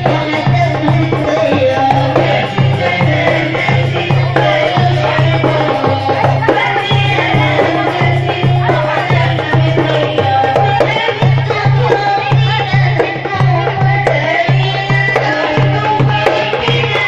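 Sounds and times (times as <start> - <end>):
hand drum rhythm: 0.0 - 17.0.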